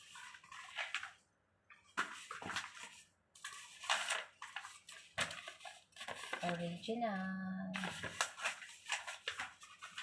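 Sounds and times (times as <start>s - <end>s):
package rustling and clicking: 0.0s - 6.8s, 7.8s - 10.0s.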